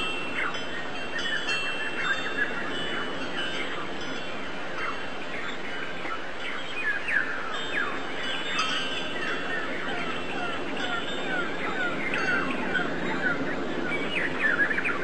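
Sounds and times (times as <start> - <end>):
birds chirping: 0.0 - 15.0
steady background hiss: 0.0 - 15.0.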